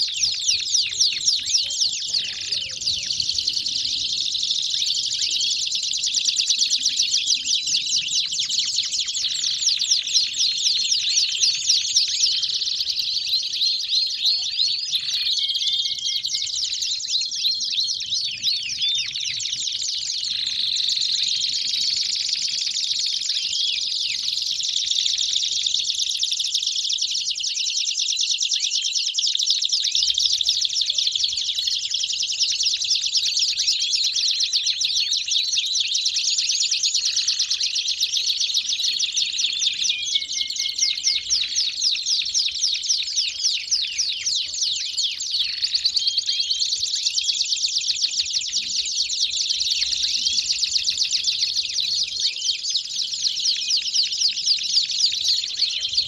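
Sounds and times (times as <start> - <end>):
canaries singing: 0.0 - 56.0.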